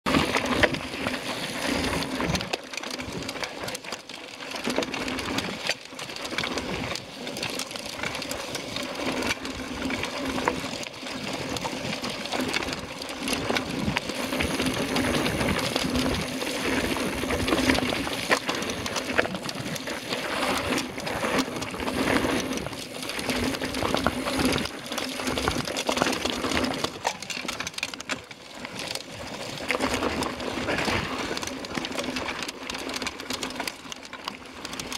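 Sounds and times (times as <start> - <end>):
bike rattling: 0.1 - 34.9.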